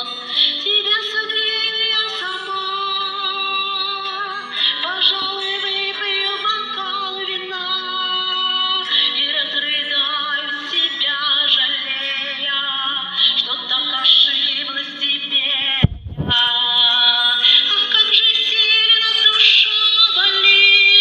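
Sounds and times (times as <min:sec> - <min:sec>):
woman singing with vibrato: 0:00.0 - 0:21.0.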